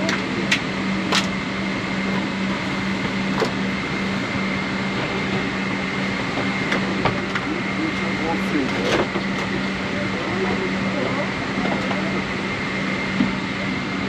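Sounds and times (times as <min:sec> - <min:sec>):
aircraft cabin hum: 0:00.0 - 0:14.0.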